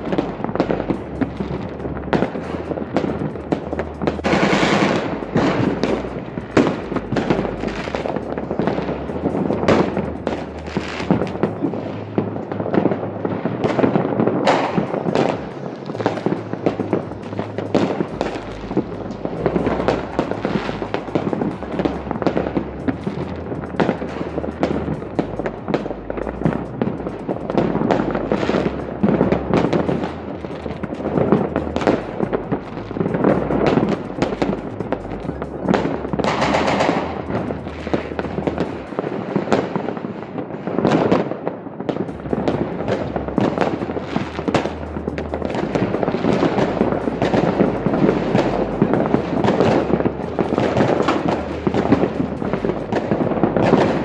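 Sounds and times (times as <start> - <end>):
distant fireworks crackling: 0.0 - 54.0.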